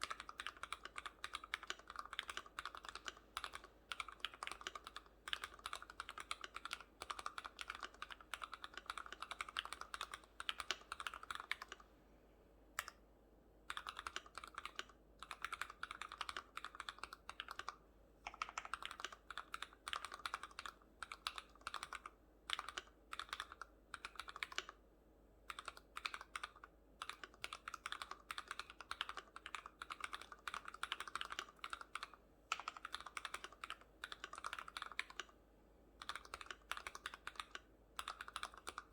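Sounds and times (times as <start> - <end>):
mechanical keyboard typing: 0.0 - 11.8, 13.7 - 24.8, 25.5 - 35.3, 36.0 - 38.9.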